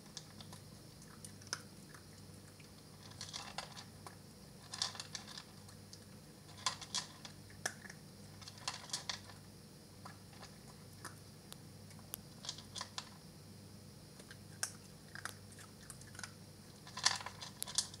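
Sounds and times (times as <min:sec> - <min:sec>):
puppy chewing crunchy food: 0:00.0 - 0:13.2, 0:14.1 - 0:18.0.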